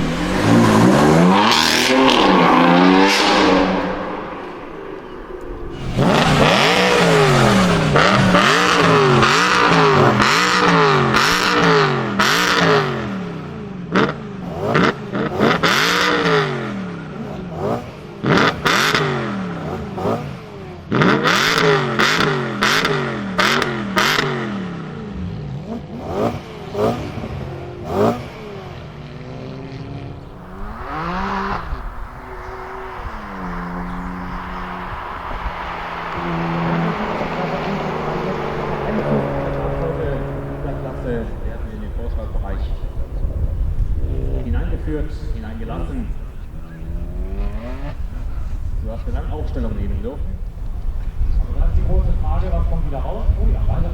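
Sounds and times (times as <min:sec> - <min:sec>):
exhaust cracks: 0:00.0 - 0:29.1, 0:29.9 - 0:53.9
car engine revving: 0:00.0 - 0:53.9.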